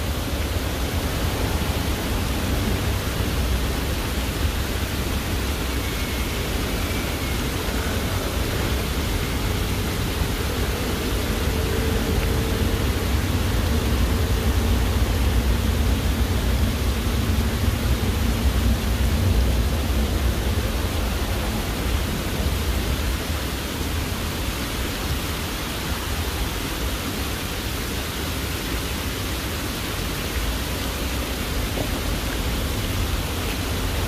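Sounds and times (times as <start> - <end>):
water cascading splash: 0.0 - 34.0.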